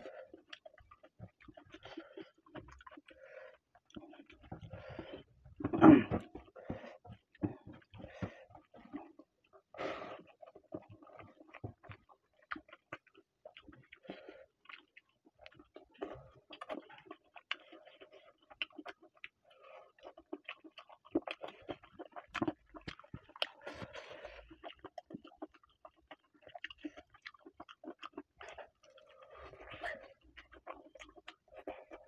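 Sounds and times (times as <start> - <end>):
person chewing and smacking: 0.0 - 32.0.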